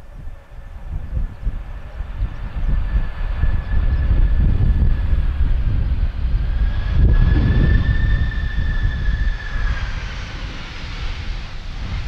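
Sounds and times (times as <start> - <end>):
wind rumbling on microphone: 0.0 - 12.0
jet engines whining: 0.2 - 12.0.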